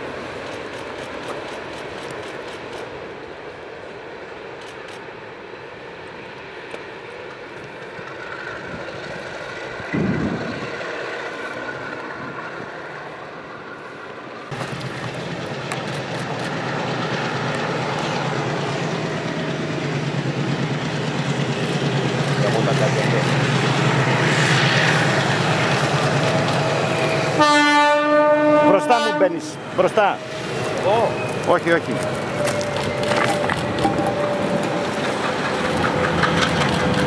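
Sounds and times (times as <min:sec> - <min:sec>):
locomotive engine drone: 0:00.0 - 0:37.0
train rumble in tunnel: 0:00.0 - 0:37.0.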